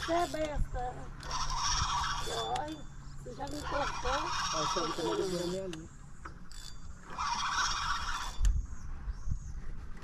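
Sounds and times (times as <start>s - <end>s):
fishing reel gears whirring: 0.0s - 8.7s.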